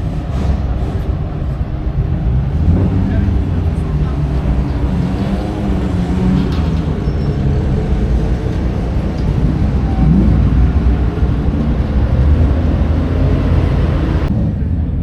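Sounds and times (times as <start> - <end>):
racing car engines running: 0.0 - 15.0.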